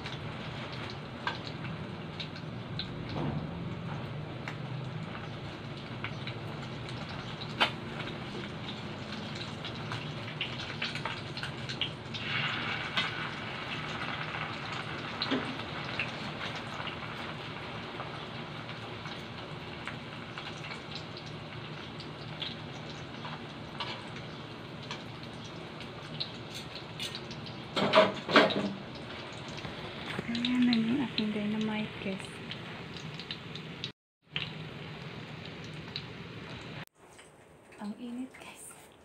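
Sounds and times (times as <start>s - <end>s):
food deep-frying in hot oil: 0.0s - 36.9s.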